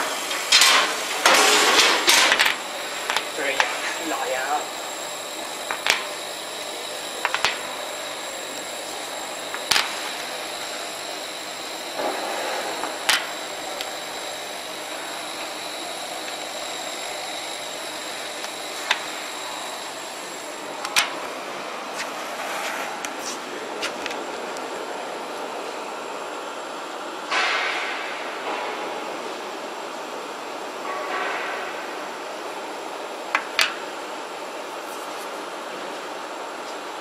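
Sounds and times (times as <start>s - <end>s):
machine-room hiss: 0.0s - 37.0s.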